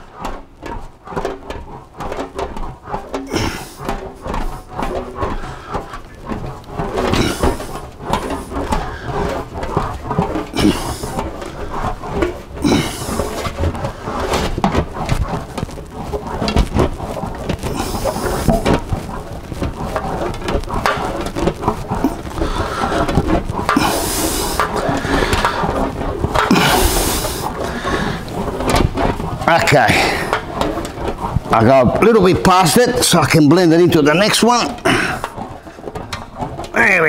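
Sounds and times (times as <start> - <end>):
metal wheel squeaky rolling: 0.0 - 37.0.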